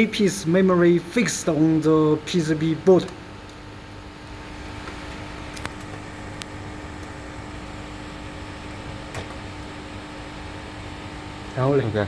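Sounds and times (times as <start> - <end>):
fan hum: 0.0 - 12.0.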